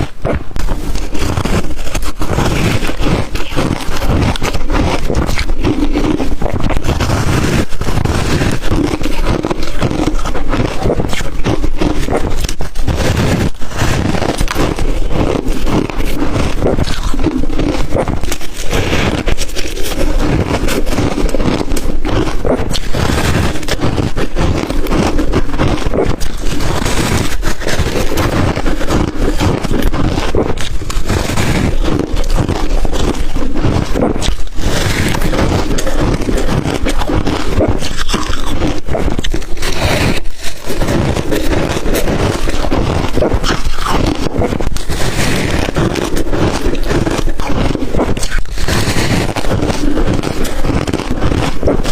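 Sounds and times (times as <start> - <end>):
ice being crunched: 0.0 - 51.9.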